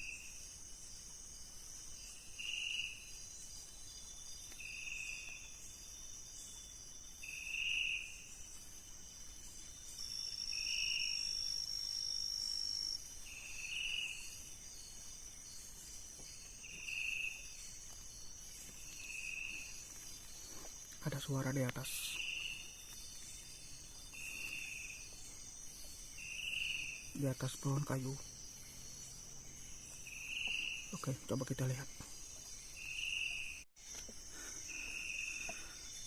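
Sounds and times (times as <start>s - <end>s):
crickets and insects trilling: 0.0s - 36.0s
high insect whine: 0.0s - 36.0s
short lower-pitched insect call: 0.0s - 36.0s.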